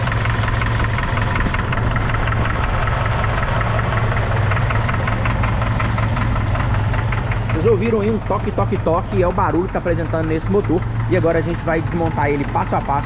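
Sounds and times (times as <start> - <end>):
car engine running: 0.0 - 13.0
engine knocking tap: 0.0 - 13.0.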